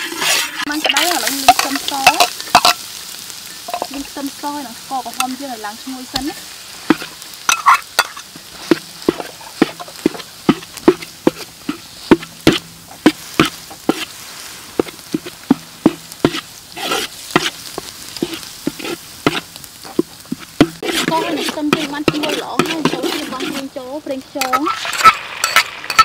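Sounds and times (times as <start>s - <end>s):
metal spatula scraping a wok: 0.0s - 4.1s, 5.1s - 26.0s
food sizzling in oil: 0.0s - 26.0s.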